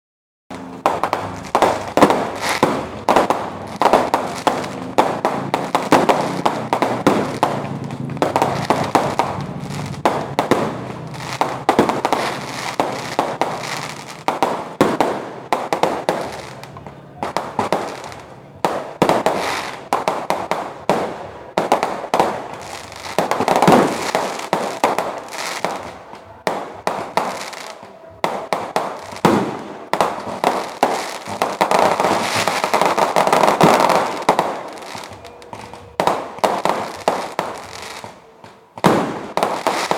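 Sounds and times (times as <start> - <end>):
fireworks bangs: 0.5 - 39.9.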